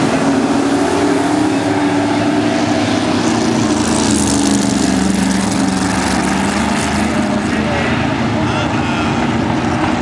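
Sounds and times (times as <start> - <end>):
race car engines: 0.0 - 10.0
race car passing by: 0.0 - 10.0.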